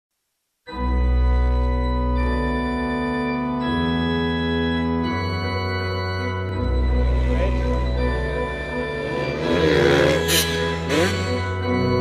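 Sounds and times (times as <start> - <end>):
sustained chords over deep bass: 0.8 - 12.0.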